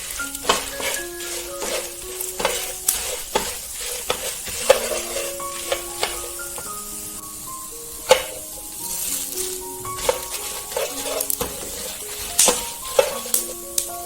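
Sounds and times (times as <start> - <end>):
spatula scraping a pan: 0.0 - 13.9
food sizzling in a pan: 0.0 - 14.0
soft background music: 0.0 - 14.0.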